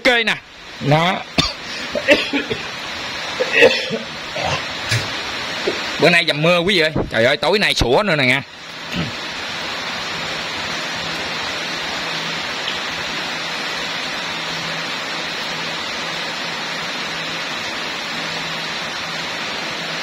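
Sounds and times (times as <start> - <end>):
rain falling hiss: 0.0 - 20.0.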